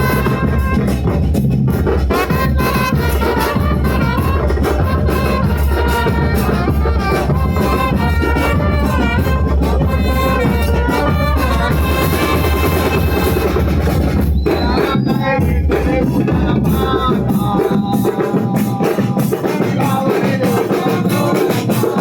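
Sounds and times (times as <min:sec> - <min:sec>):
music with instruments and drums: 0:00.0 - 0:22.0.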